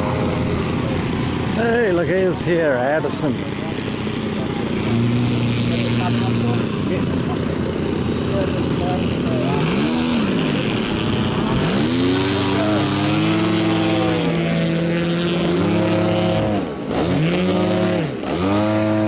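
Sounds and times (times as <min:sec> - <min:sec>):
model aircraft engine running: 0:00.0 - 0:19.0.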